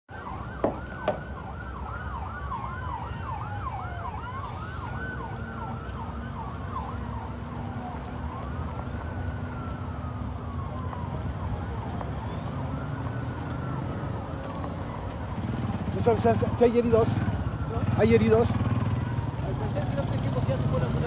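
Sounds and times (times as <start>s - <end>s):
low traffic rumble: 0.1s - 21.0s
siren wailing: 0.1s - 21.0s
siren yelping: 0.1s - 21.0s.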